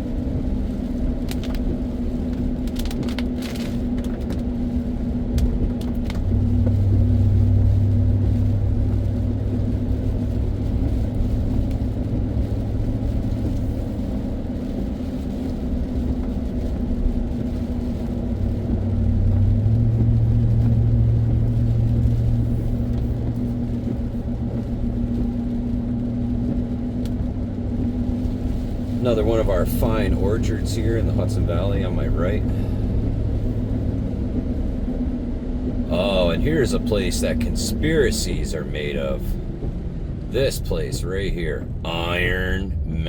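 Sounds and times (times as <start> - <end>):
car engine and tyres droning: 0.0 - 43.0.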